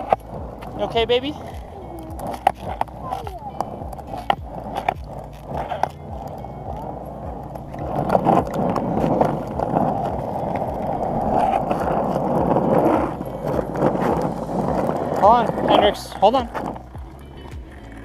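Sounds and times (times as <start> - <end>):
skateboard wheels rolling on asphalt: 0.0 - 18.0.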